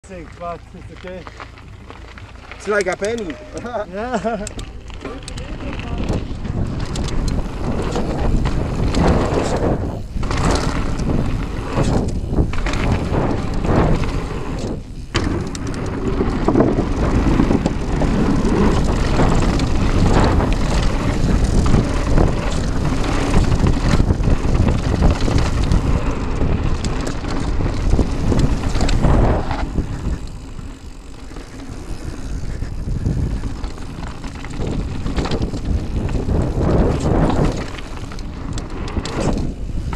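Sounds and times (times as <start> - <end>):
bike tyres rumbling on gravel: 0.0 - 39.9
wind buffeting microphone: 0.1 - 39.9.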